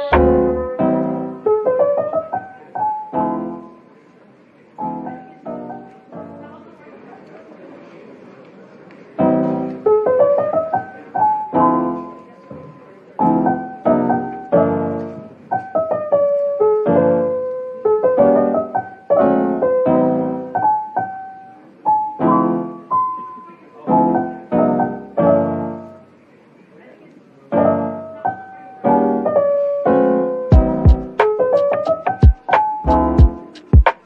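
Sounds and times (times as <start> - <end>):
gentle piano music: 0.0 - 7.0, 9.2 - 26.2, 27.5 - 34.0.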